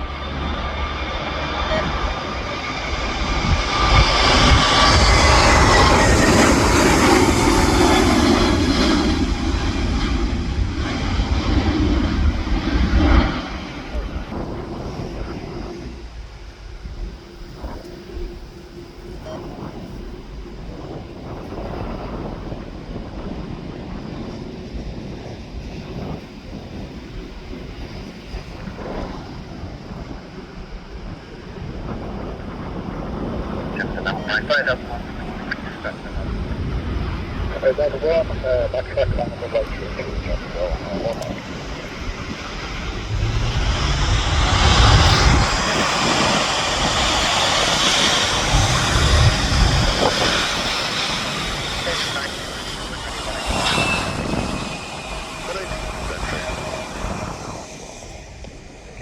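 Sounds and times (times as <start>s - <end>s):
airliner engines rushing: 0.0s - 59.0s
wind buffeting microphone: 0.0s - 59.0s.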